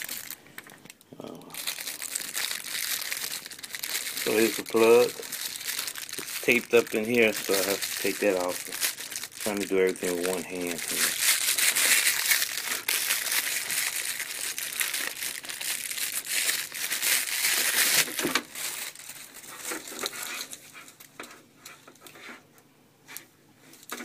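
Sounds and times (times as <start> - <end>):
tape crinkling: 0.0 - 22.2.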